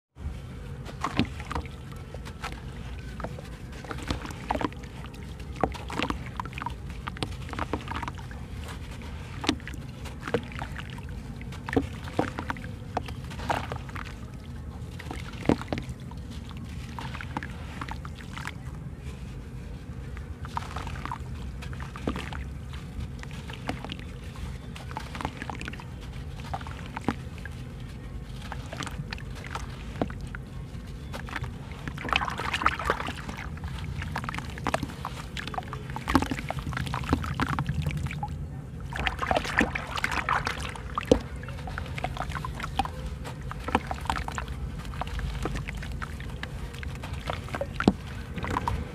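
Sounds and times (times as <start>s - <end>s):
steady low rumble: 0.2s - 48.9s
water sloshing in a basin: 0.2s - 48.9s
wet sand crunching: 0.2s - 48.9s.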